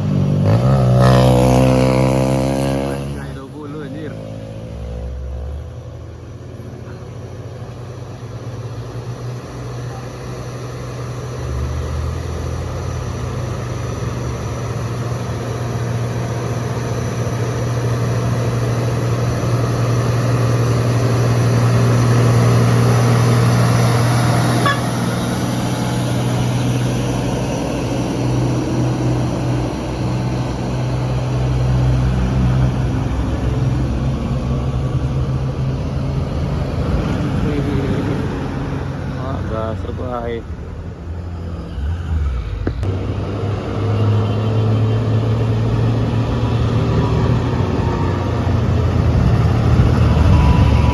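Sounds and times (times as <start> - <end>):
diesel truck engine labouring: 0.0 - 50.9.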